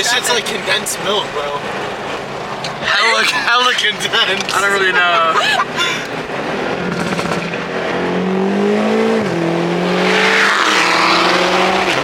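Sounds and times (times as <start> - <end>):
wind and road noise: 0.0 - 12.0
car engine accelerating hard: 0.1 - 12.0.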